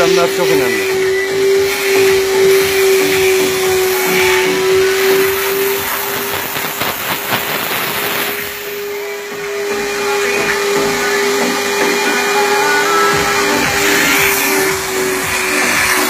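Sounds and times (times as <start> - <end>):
steam jet hissing: 0.0 - 16.0.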